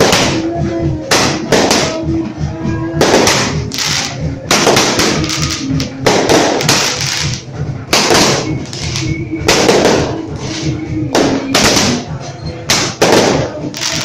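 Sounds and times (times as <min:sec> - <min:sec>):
fireworks bursting: 0:00.0 - 0:00.5, 0:01.1 - 0:02.1, 0:03.0 - 0:14.0.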